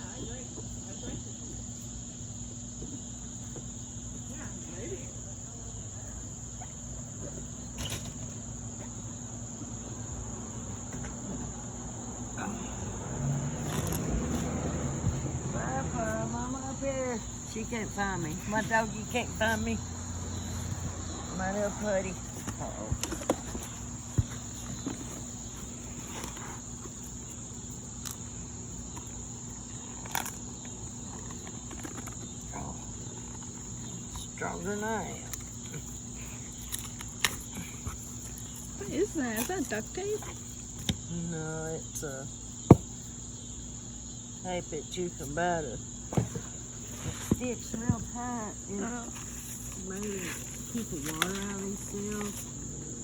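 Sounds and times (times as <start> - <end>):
crickets chirping: 0.0 - 53.0
insects trilling: 0.0 - 53.0.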